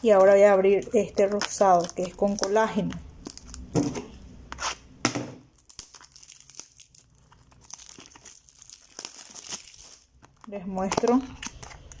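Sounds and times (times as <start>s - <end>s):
plastic wrap tearing and crinkling: 0.0s - 3.8s, 5.5s - 12.0s.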